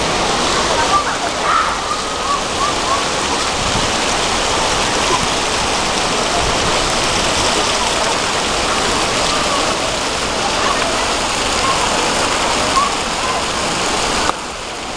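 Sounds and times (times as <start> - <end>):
fountain jets splashing on stone: 0.0 - 14.9.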